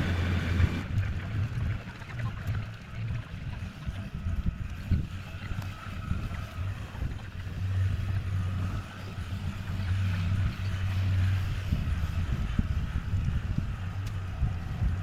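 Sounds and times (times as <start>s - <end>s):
engine humming: 0.0s - 15.0s
wind noise on microphone: 0.0s - 15.0s.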